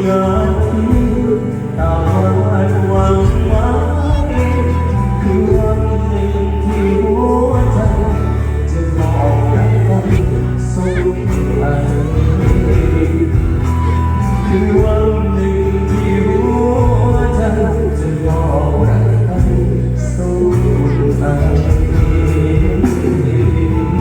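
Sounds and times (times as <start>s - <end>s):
heavy bass: 0.0s - 24.0s
live band playing: 0.0s - 24.0s
man singing: 0.0s - 24.0s.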